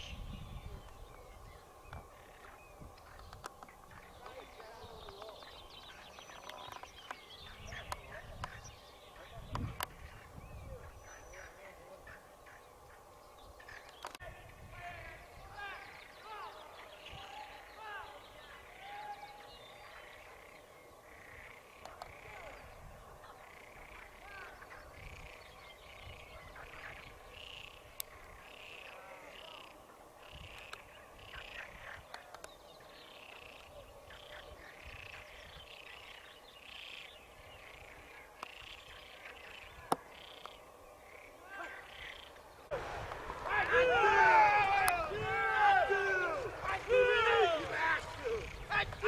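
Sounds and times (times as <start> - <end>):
rural outdoor ambience: 0.0 - 49.0.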